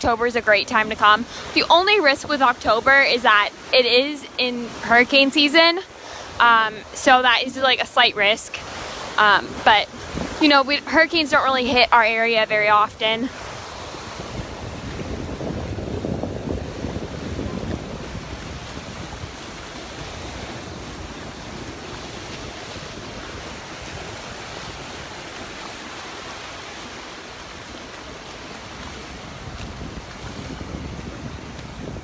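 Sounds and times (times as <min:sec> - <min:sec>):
surf washing onto beach: 0:00.0 - 0:32.0
wind buffeting microphone: 0:06.2 - 0:32.0.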